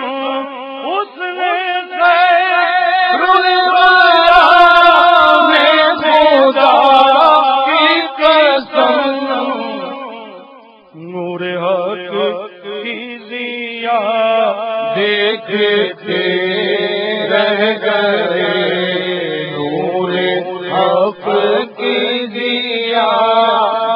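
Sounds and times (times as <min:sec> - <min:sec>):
man singing unaccompanied: 0:00.0 - 0:23.9.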